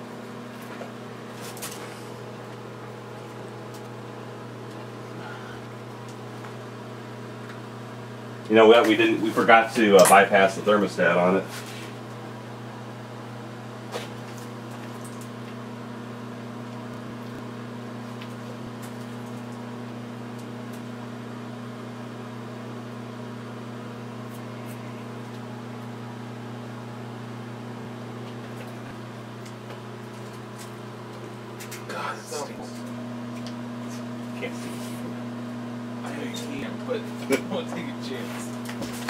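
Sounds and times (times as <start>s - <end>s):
microwave oven humming: 0.0s - 39.0s.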